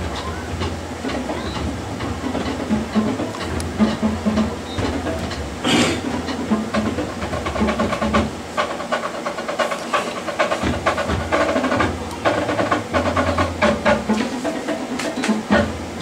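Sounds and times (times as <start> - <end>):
marching drumline: 0.0 - 16.0.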